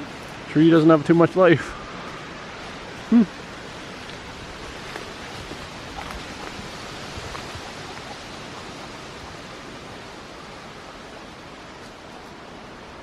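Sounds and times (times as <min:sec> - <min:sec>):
wind through treetops: 0:00.0 - 0:13.0.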